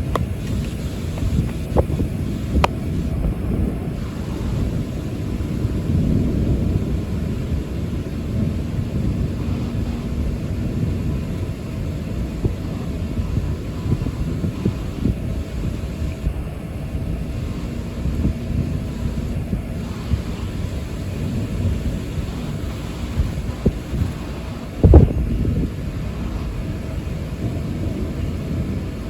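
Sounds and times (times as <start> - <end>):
thunder rolling: 0.0 - 29.0.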